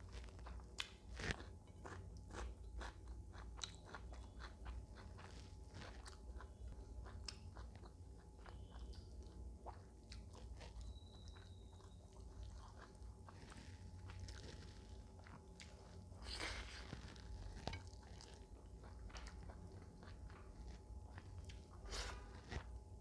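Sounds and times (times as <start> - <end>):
person chewing and biting food: 0.0 - 22.8.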